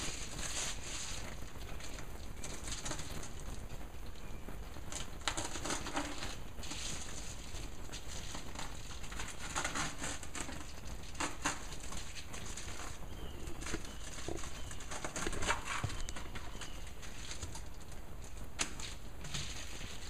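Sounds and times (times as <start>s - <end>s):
foil bubble wrap crinkling: 0.0s - 20.0s.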